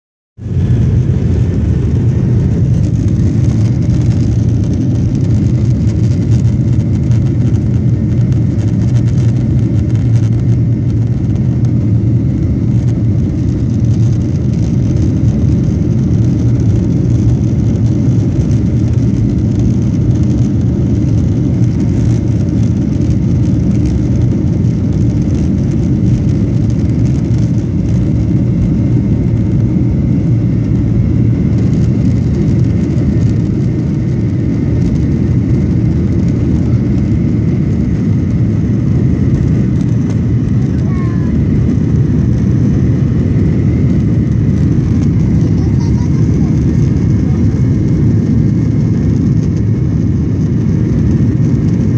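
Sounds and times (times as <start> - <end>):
faint high engine whine: 0.4 - 51.9
jet engines deep rushing noise: 0.4 - 51.9.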